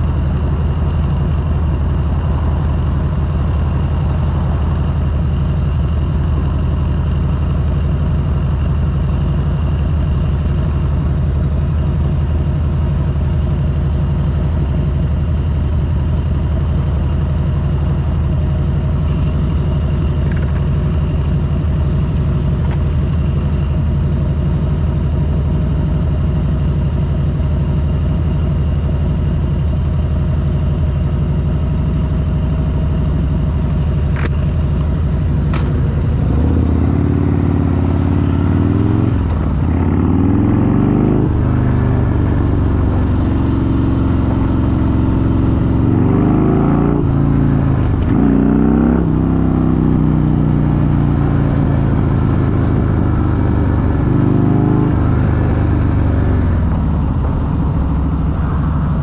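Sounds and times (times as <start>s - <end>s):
motorcycle revving and shifting gears: 0.0s - 16.3s, 17.5s - 59.0s
motorcycle engine idling: 0.0s - 48.1s.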